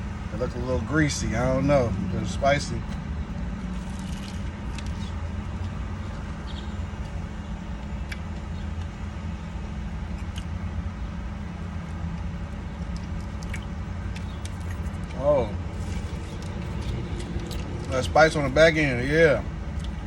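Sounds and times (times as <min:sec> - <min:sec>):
engine idling low rumble: 0:00.0 - 0:20.0.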